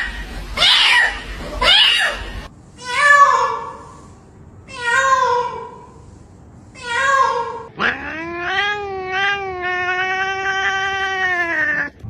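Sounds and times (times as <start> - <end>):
cat meowing: 0.0 - 3.8, 4.7 - 5.8, 6.8 - 12.0.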